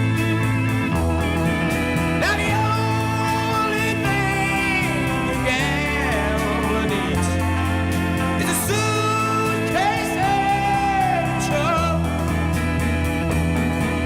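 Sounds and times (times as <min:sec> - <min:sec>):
song with sung melody: 0:00.0 - 0:14.0.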